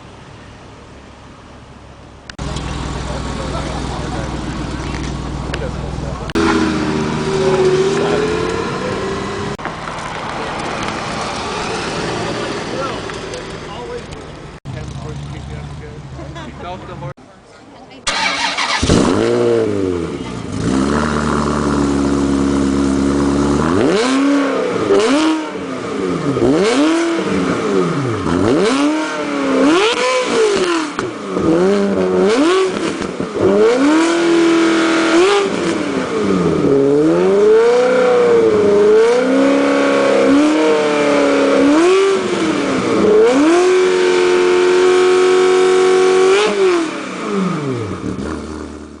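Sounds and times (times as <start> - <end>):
sports car engine revving: 2.3 - 16.2, 18.1 - 49.0.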